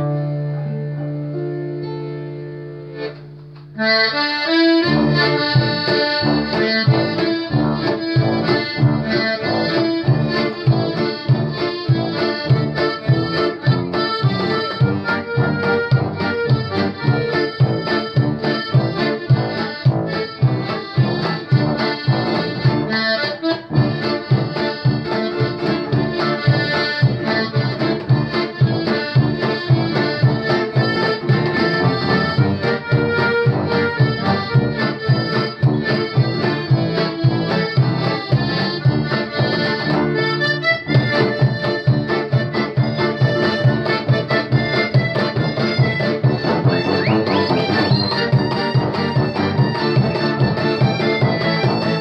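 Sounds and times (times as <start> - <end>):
piano accordion playing lively tune: 0.0 - 1.4, 2.9 - 52.0
acoustic guitar accompaniment: 0.0 - 52.0.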